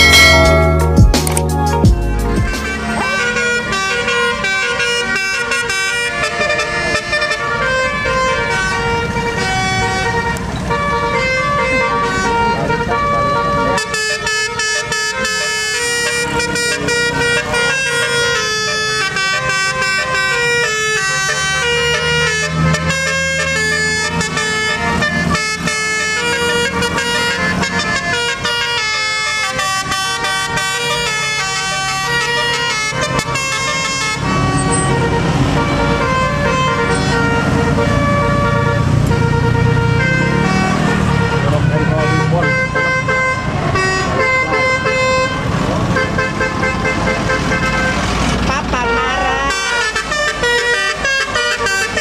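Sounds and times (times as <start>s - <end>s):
bus horn playing melody: 0.0s - 52.0s
engine rumble: 0.0s - 52.0s.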